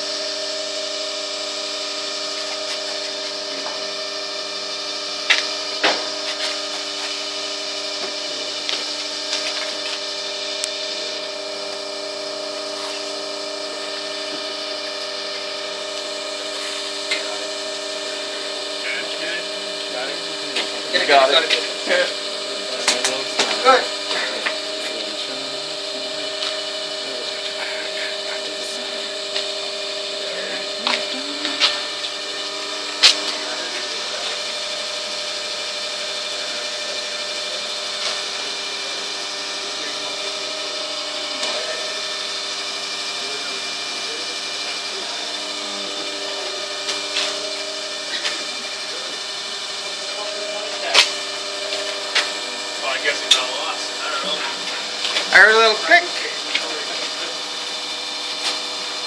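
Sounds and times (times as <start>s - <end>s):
testing machine humming: 0.0s - 59.0s.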